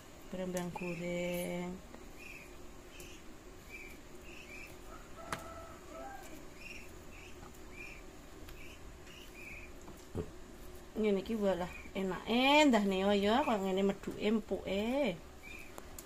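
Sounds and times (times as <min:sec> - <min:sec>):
small bird chirping: 0:00.3 - 0:09.8, 0:11.4 - 0:14.3, 0:15.0 - 0:15.9.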